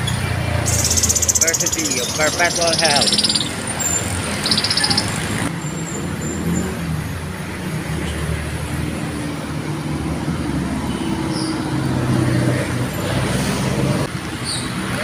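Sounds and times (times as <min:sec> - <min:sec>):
cars and motorcycles passing: 0:00.0 - 0:15.0.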